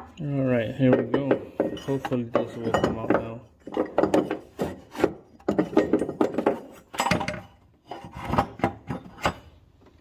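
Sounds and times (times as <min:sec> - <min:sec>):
metal tools clinking and knocking: 0:00.8 - 0:09.5.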